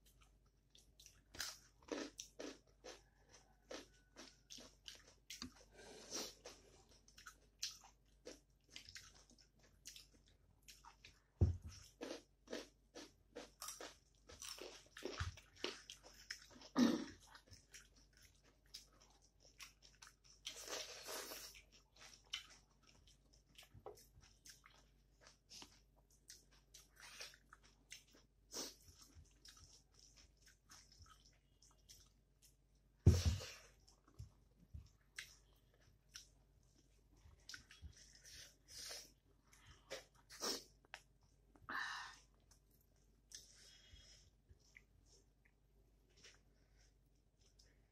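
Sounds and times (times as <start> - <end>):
chewing and mouth clicks: 0.0 - 32.6, 33.7 - 38.5, 39.4 - 41.4, 42.4 - 43.6.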